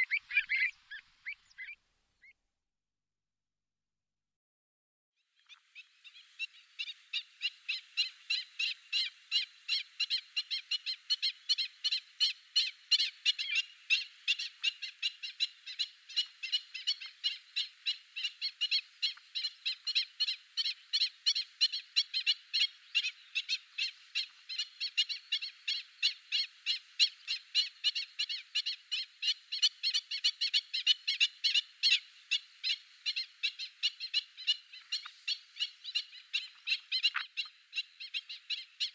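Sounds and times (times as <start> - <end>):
birds calling rapidly: 0.0 - 2.4, 5.4 - 38.9.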